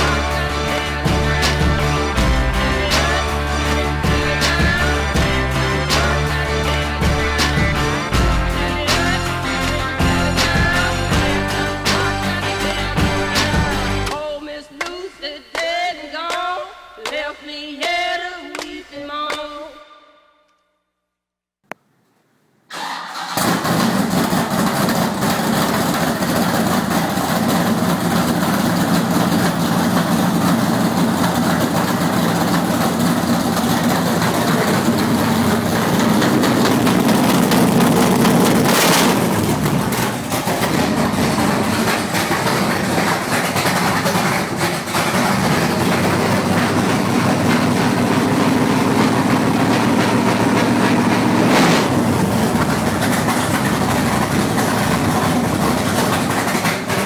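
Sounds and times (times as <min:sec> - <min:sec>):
car engine idling: 0:00.0 - 0:14.0, 0:21.7 - 0:57.0.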